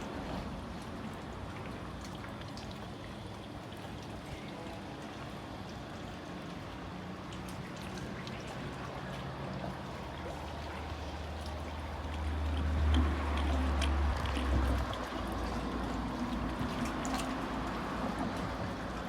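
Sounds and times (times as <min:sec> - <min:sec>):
water drips and splashes: 0:00.0 - 0:19.0
water lapping and trickling: 0:00.0 - 0:19.0.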